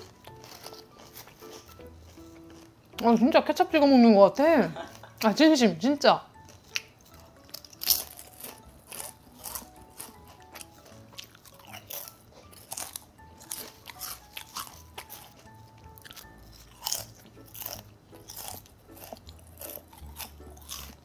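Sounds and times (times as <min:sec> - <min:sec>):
potato chips crunching: 0:00.0 - 0:03.3, 0:06.3 - 0:21.0
faint background music: 0:00.0 - 0:21.0.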